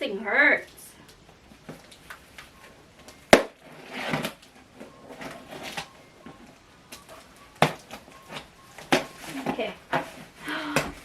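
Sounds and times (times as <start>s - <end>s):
cardboard packaging rustling: 1.0s - 11.0s.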